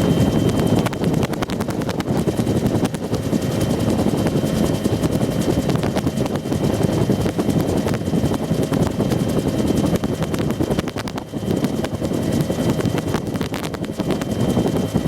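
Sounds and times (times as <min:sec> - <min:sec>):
helicopter rotor chopping: 0:00.0 - 0:15.0
turbine engine drone: 0:00.0 - 0:15.0.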